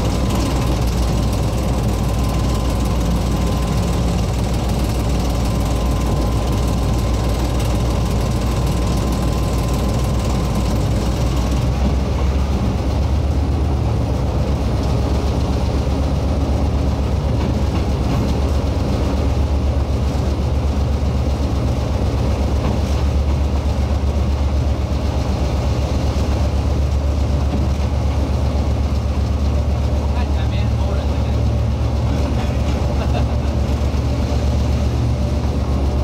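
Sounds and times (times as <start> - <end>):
locomotive engine droning: 0.0 - 36.0.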